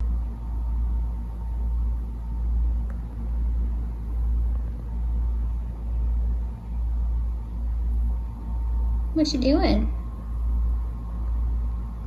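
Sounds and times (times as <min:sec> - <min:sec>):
faint steady tone: 0:00.0 - 0:12.0
low pulsing rumble: 0:00.0 - 0:12.0.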